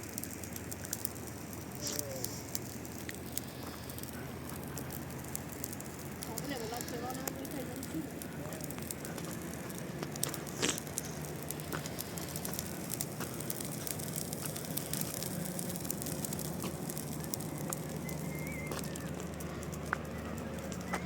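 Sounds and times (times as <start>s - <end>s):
low steady hum: 0.0s - 21.0s
sharp crackling clicks: 0.0s - 21.0s.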